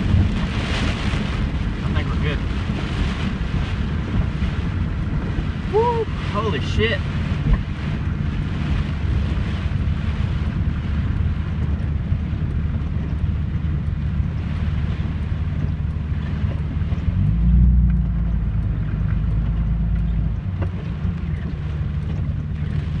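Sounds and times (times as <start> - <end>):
road and engine rumble: 0.0 - 23.0
wind noise: 0.0 - 23.0.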